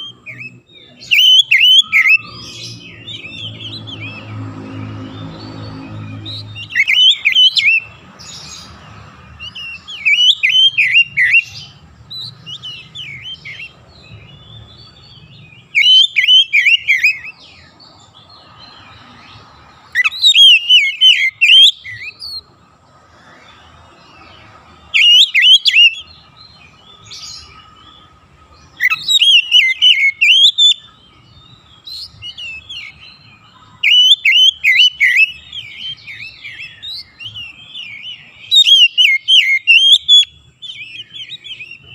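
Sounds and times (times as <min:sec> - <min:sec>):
bird singing whistled notes: 0:00.0 - 0:22.6, 0:23.2 - 0:41.9.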